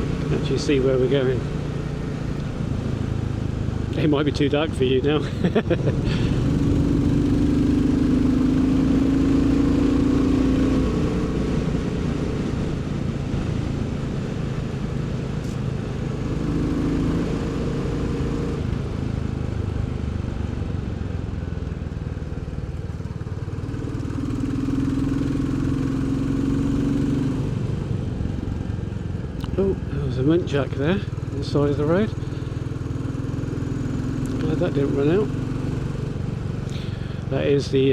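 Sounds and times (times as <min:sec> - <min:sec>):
motorcycle engine and exhaust: 0:00.0 - 0:37.9.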